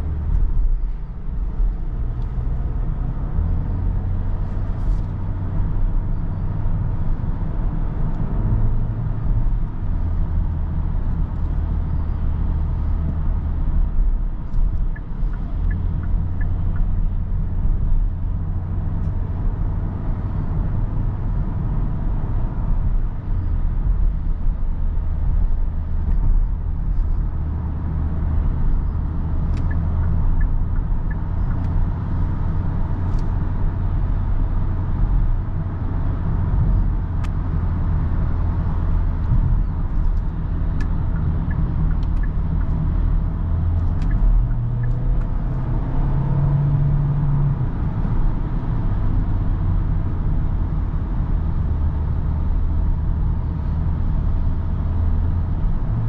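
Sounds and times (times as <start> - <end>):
car cabin road drone: 0.0 - 56.0.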